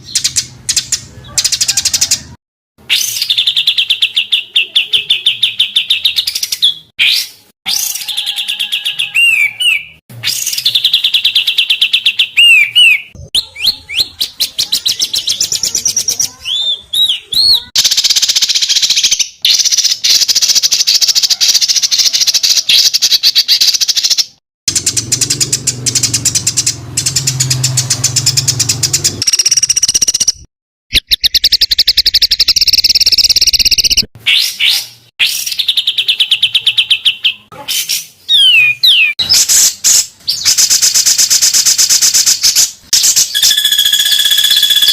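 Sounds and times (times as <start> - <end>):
songbirds trilling harsh notes: 0.0 - 44.9.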